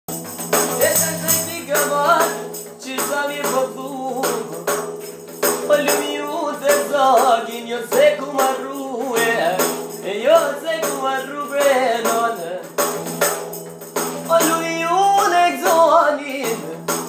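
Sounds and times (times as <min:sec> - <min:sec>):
tambourine-like jingling percussion: 0:00.1 - 0:17.0.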